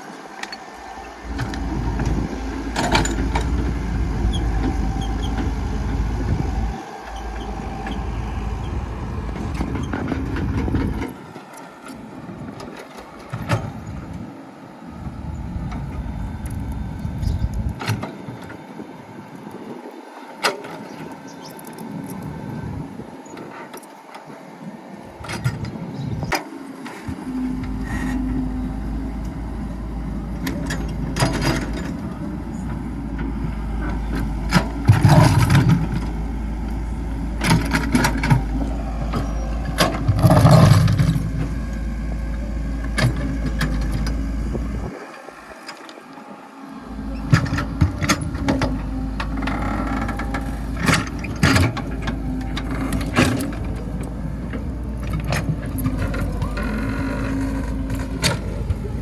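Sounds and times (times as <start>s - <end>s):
excavator engine humming: 0.0s - 59.0s.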